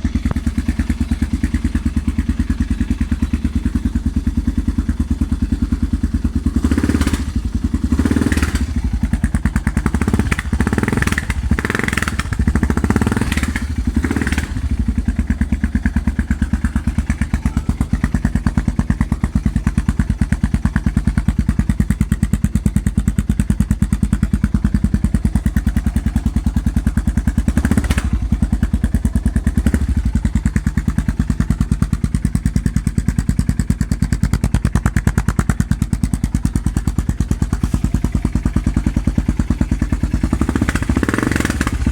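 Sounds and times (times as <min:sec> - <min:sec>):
loud motorcycle engine revving: 0:00.0 - 0:41.9.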